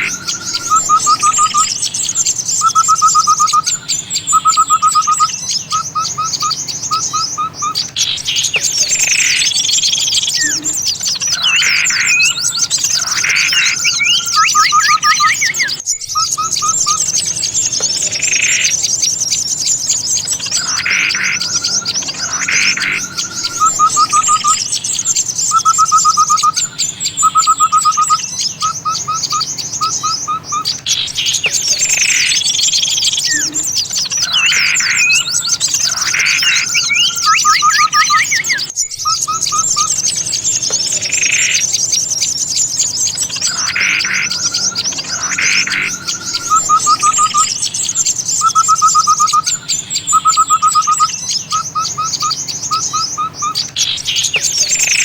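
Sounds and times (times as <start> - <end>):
songbirds twittering: 0.0 - 55.0.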